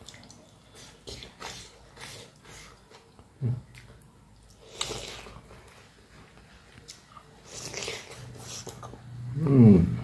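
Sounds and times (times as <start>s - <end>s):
chewing and lip smacking: 0.0s - 5.8s, 6.7s - 9.1s.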